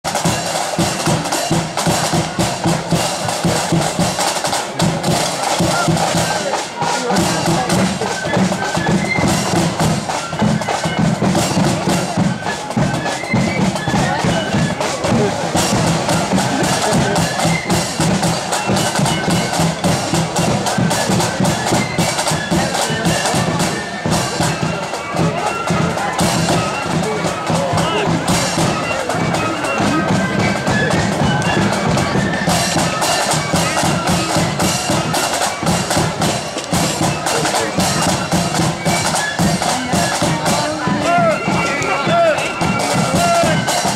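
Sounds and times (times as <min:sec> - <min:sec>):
snare drums march rhythm: 0:00.0 - 0:43.9
flutes playing: 0:00.1 - 0:43.9.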